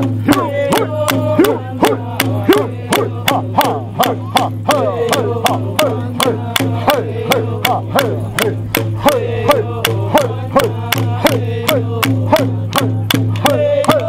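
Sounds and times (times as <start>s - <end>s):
sharp rhythmic clicks: 0.0s - 14.0s
voices singing: 0.0s - 14.0s.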